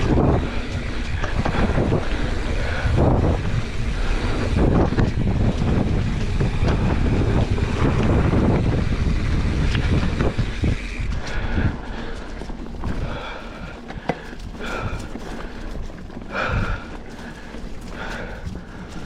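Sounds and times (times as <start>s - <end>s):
tyres rumbling over dirt trail: 0.0s - 19.0s
wind buffeting microphone: 0.0s - 19.0s.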